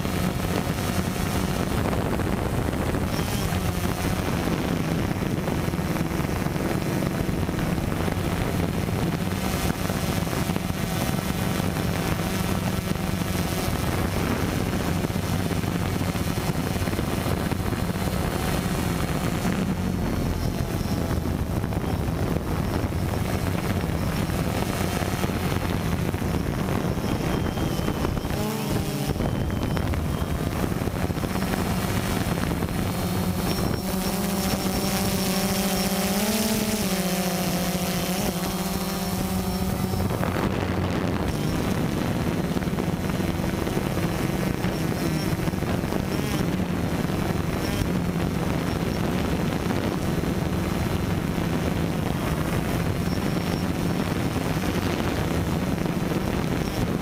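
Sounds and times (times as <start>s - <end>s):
drone propellers whirring: 0.0s - 57.0s
wind rushing over microphone: 0.0s - 57.0s.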